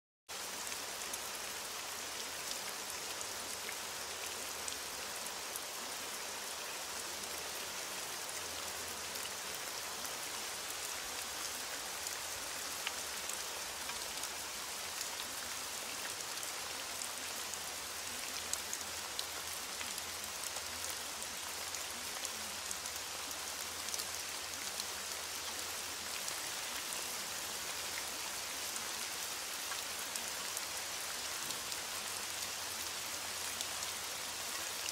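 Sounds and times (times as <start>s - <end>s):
steady rain falling: 0.3s - 34.9s.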